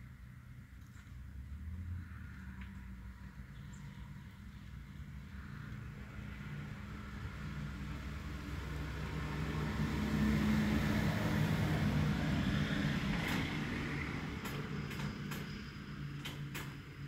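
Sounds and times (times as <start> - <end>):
vehicle passing by: 1.1 - 16.0.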